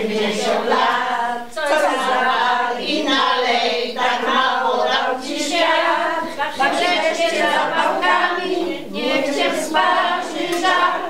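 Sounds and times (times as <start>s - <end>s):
elderly women singing together: 0.0s - 11.0s.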